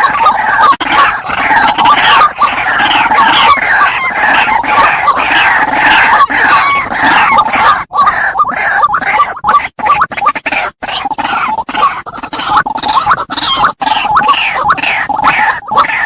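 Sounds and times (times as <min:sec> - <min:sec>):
waterhens calling: 0:00.0 - 0:16.0.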